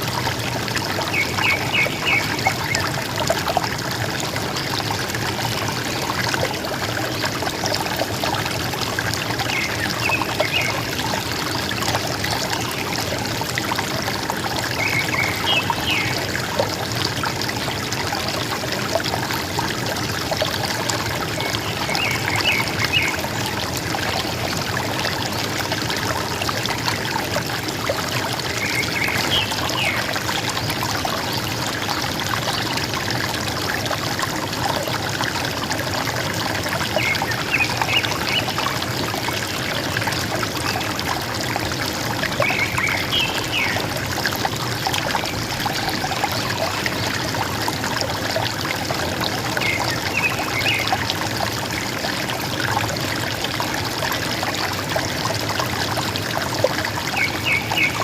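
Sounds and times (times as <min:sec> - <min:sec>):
river water gurgling: 0:00.0 - 0:58.0.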